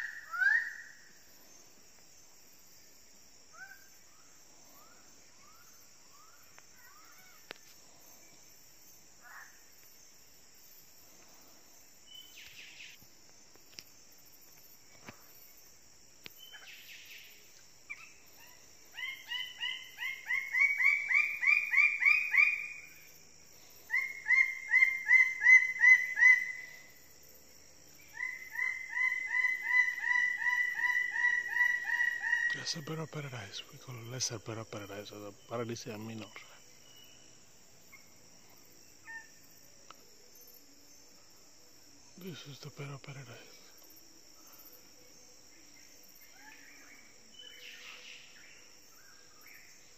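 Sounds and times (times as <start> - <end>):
insects hissing: 0.0 - 49.9.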